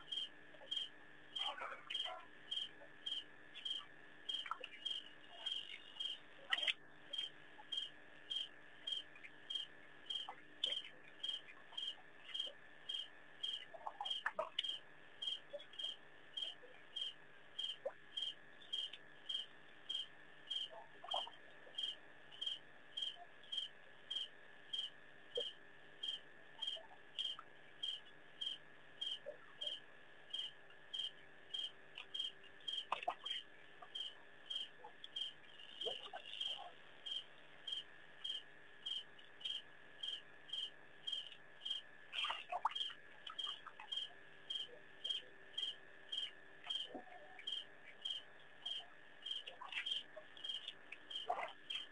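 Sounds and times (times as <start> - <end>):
cricket chirping: 0.0 - 51.9.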